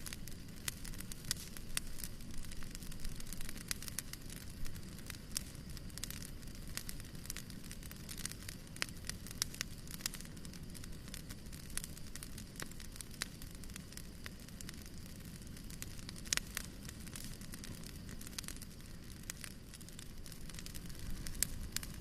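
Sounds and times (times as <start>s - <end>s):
flames hissing: 0.0s - 22.0s
wood fire crackling: 0.0s - 22.0s.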